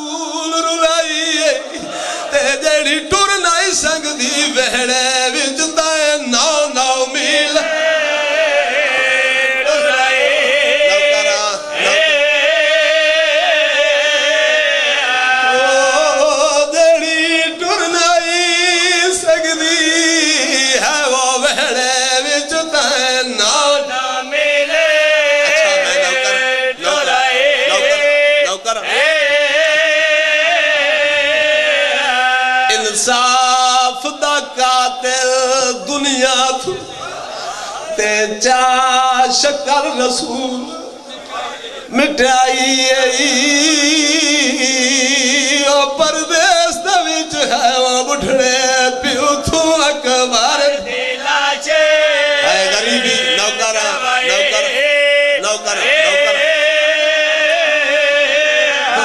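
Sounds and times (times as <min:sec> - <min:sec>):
man chanting a mournful lament: 0:00.0 - 0:37.2, 0:37.8 - 0:59.0.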